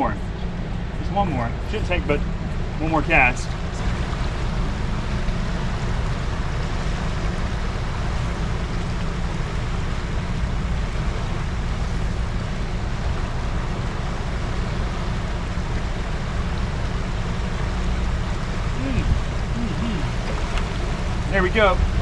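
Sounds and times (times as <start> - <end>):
turbulent river water rushing: 0.0 - 22.0
wind rumble on microphone: 0.0 - 22.0.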